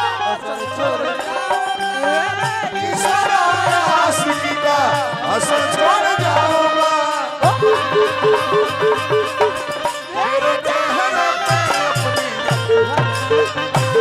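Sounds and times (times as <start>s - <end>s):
harmonium chords and melody: 0.0s - 14.0s.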